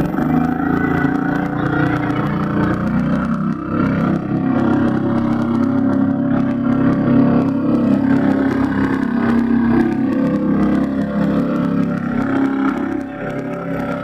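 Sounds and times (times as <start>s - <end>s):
small boat engines running: 0.0s - 14.0s.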